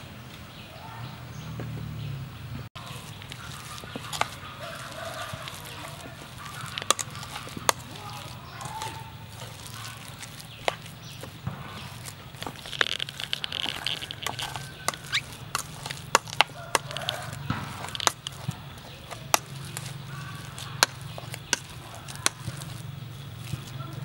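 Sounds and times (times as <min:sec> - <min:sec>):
spoon mashing potato: 0:02.8 - 0:24.0.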